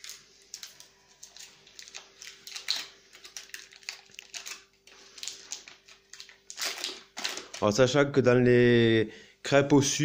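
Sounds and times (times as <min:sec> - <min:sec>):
foil paper wrapper crinkling: 0:00.0 - 0:08.0.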